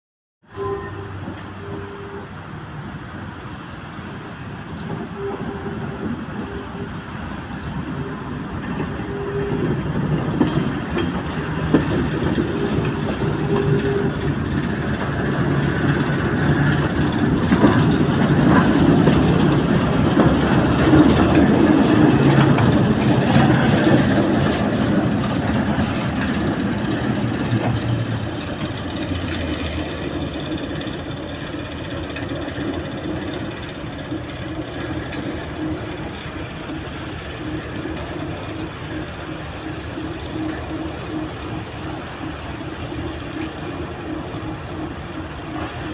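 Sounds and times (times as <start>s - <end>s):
diesel locomotive engine running: 0.4s - 45.9s
train wheels clicking over rail joints: 7.1s - 45.9s.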